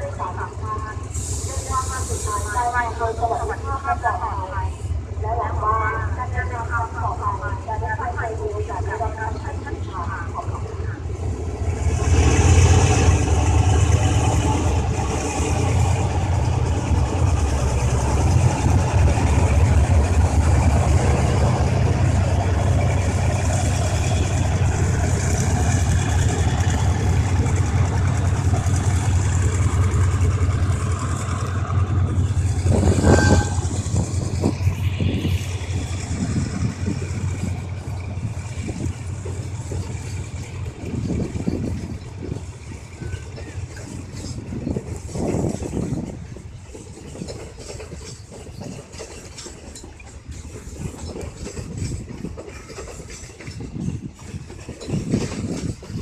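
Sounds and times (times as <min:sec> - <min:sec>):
diesel locomotive engine: 0:00.0 - 0:56.0
train wheels rumbling and clicking: 0:00.0 - 0:56.0.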